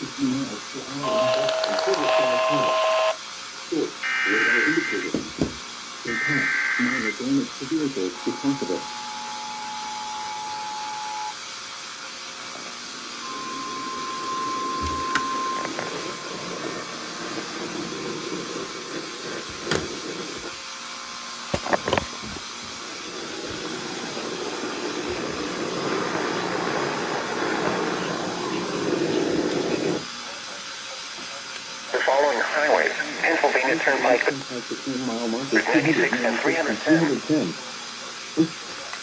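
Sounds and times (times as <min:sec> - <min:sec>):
radio static: 0:00.0 - 0:11.4, 0:12.4 - 0:20.6, 0:21.6 - 0:38.9.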